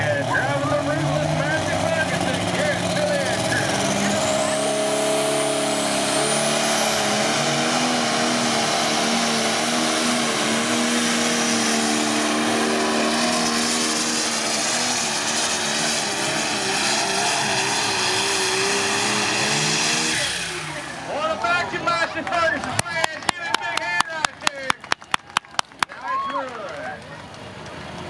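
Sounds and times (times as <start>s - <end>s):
diesel tractor engine under load: 0.0s - 25.9s.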